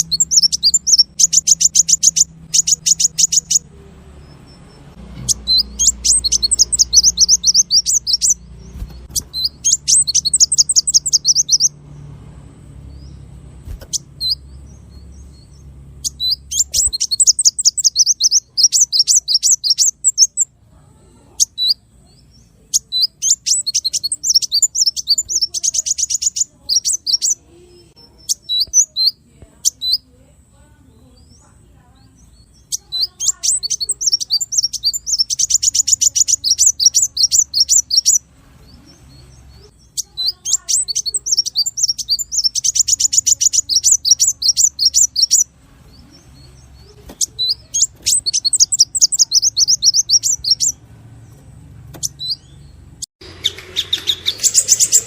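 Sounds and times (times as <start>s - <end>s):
songbird singing rapid trills: 0.0s - 55.0s.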